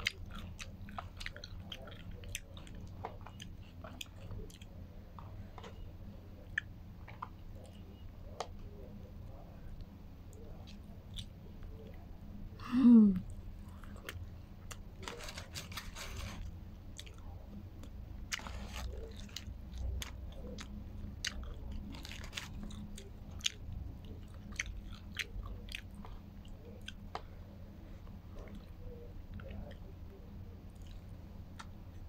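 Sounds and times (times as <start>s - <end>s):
person chewing: 0.0s - 5.8s, 10.3s - 12.0s, 13.0s - 27.4s, 28.0s - 32.0s
steady low hum: 0.0s - 32.0s.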